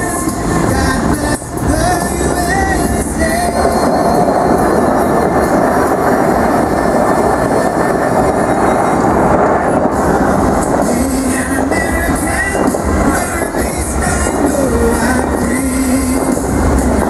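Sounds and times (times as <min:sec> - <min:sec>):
fountain water rushing roar: 0:00.0 - 0:17.0
music: 0:00.0 - 0:17.0.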